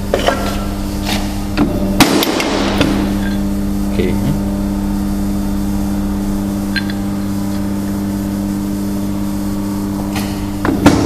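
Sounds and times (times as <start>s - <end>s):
hydraulic pump motor hum: 0.0s - 11.0s.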